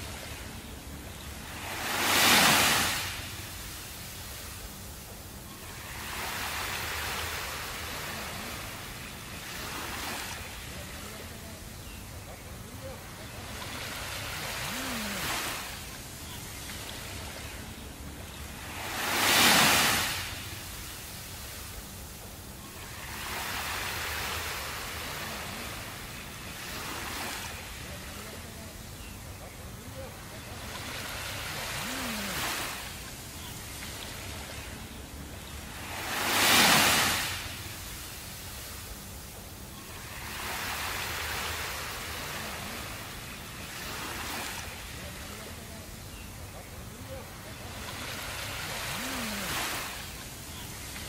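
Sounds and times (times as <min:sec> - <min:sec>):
ocean waves washing onto beach: 0:00.0 - 0:51.0.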